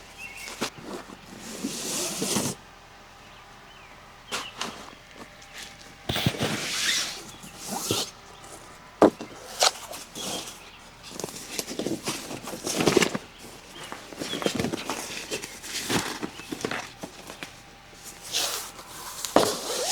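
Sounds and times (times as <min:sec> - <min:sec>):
rustling and handling noises: 0:00.0 - 0:02.6, 0:04.2 - 0:19.9.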